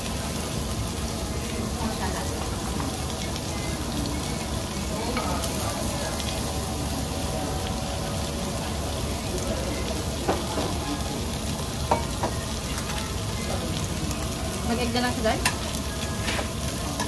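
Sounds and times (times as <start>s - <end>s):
faint background music: 0.0s - 17.0s
meat sizzling on a grill plate: 0.0s - 17.0s.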